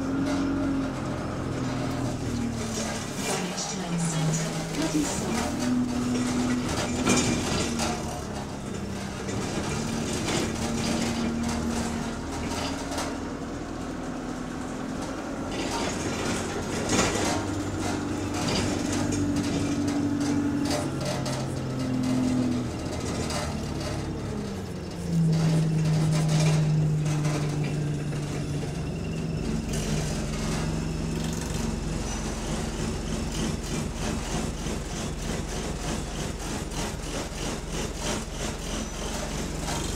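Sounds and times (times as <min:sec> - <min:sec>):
bus engine running: 0:00.0 - 0:39.9
rattling and clicks of shaking parts: 0:02.3 - 0:14.2, 0:15.0 - 0:39.9.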